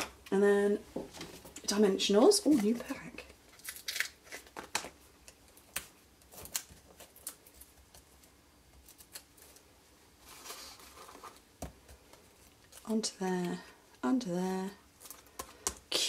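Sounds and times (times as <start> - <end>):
soft rustle of packaging: 1.1 - 16.0.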